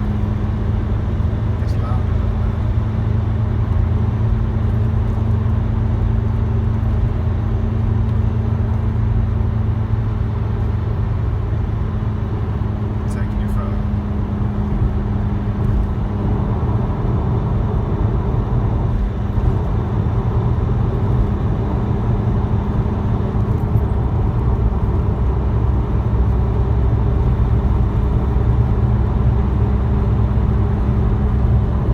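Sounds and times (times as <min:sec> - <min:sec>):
diesel engine droning hum: 0:00.0 - 0:31.9.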